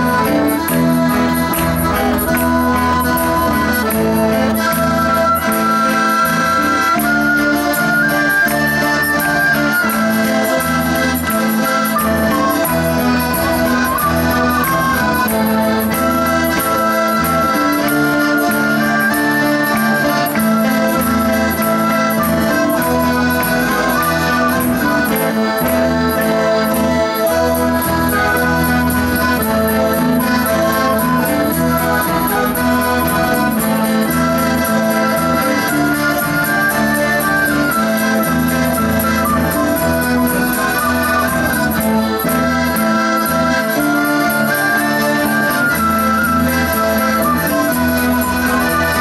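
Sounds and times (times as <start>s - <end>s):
live band with accordion: 0.0s - 49.0s.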